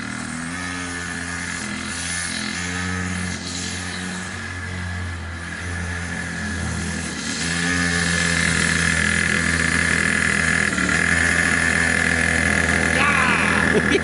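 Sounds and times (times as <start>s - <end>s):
small two-stroke engine buzzing: 0.0s - 14.0s.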